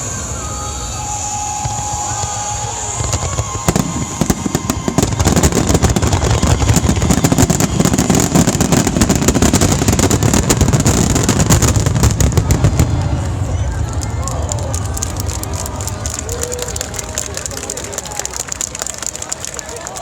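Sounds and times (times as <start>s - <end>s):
firework whistle: 0.0s - 18.9s
steady rumble: 0.0s - 19.3s
firework bursts and crackles: 0.0s - 20.0s.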